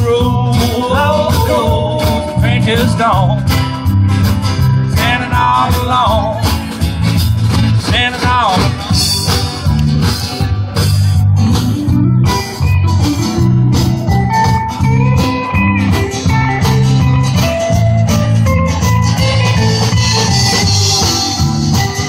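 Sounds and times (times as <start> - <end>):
drums: 0.0 - 22.0
electric guitar lead: 0.0 - 22.0
strummed acoustic guitar: 0.0 - 22.0.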